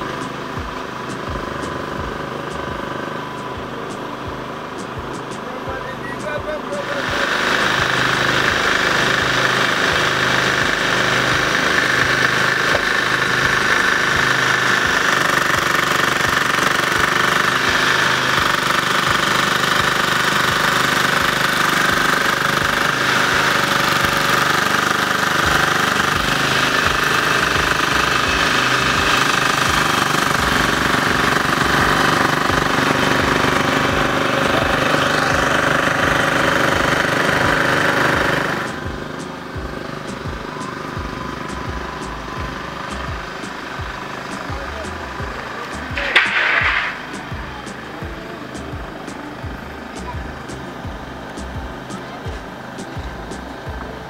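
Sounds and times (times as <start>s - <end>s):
petrol generator engine chugging: 0.0s - 54.0s.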